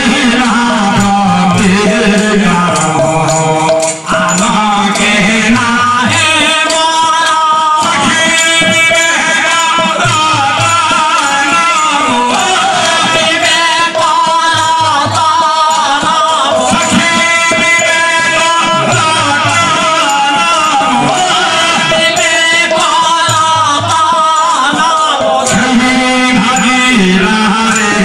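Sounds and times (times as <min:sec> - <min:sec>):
hand drum: 0:00.0 - 0:28.0
people singing devotional melody: 0:00.0 - 0:28.0
small hand cymbals: 0:00.0 - 0:28.0.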